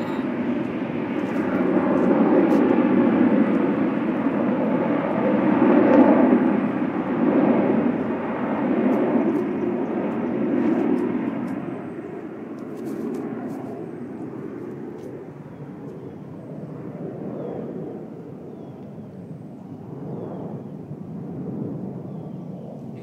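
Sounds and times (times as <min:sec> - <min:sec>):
jet rumble: 0:00.0 - 0:23.0.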